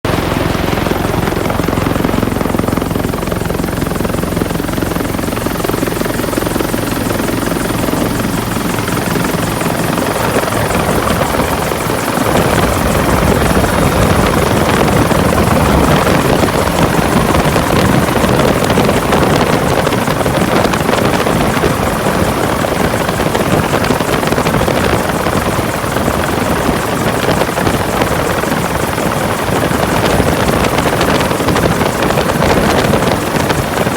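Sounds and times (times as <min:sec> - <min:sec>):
helicopter rotor and turbine: 0:00.0 - 0:33.9.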